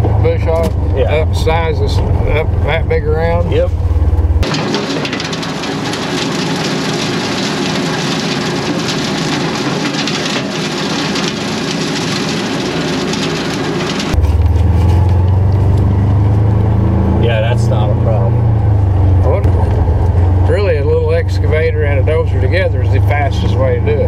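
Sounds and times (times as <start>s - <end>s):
low engine hum: 0.0s - 24.0s
tractor rotary cutter running: 0.0s - 24.0s.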